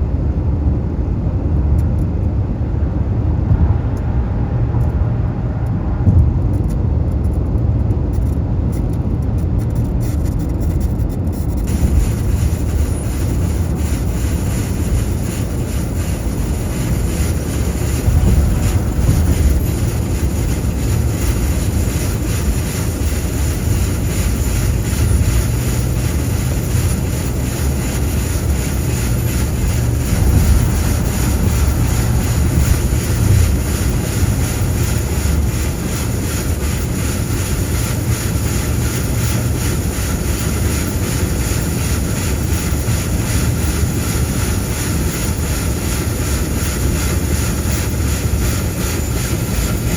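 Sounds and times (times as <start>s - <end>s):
highway traffic rumble: 0.0s - 49.9s.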